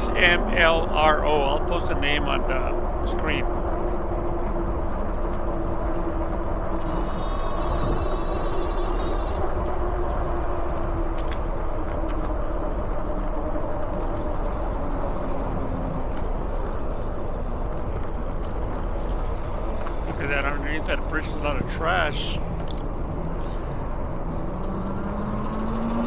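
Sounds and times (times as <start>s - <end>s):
tyre and wind rush: 0.0s - 26.0s.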